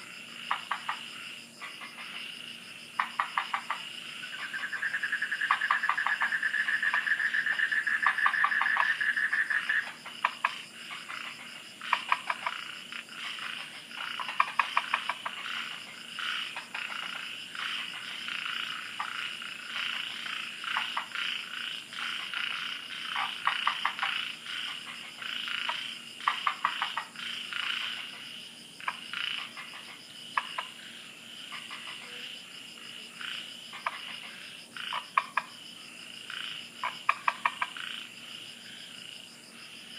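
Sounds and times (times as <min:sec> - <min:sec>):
frogs calling: 0:00.0 - 0:39.9
high insect drone: 0:00.0 - 0:39.9.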